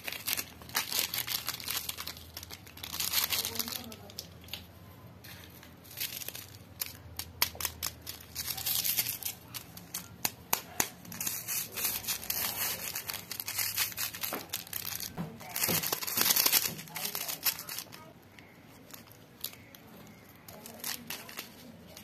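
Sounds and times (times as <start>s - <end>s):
foil sachets crinkling and tearing: 0.0s - 4.6s, 5.2s - 22.0s.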